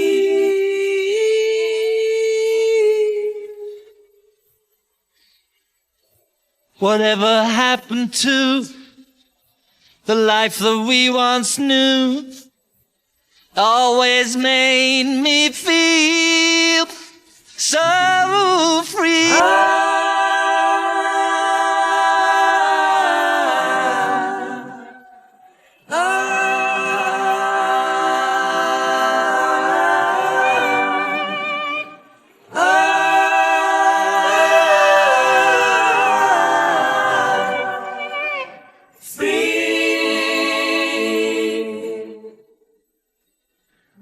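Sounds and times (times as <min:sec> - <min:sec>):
wordless vocal harmonies: 0:00.0 - 0:43.0.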